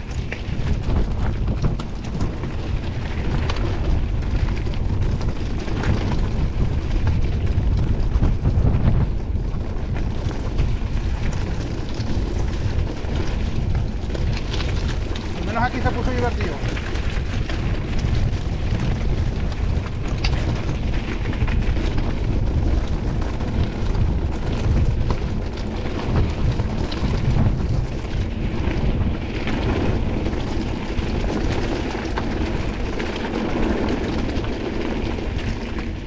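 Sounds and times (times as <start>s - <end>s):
mountain bike rattling on stony trail: 0.0s - 36.0s
wind buffeting microphone: 0.0s - 36.0s.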